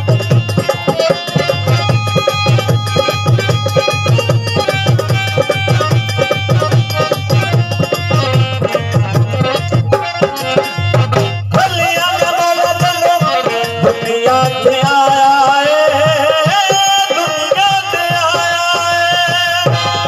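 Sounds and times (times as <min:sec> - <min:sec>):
dholak drumming: 0:00.0 - 0:20.0
harmonium melody: 0:00.0 - 0:20.0.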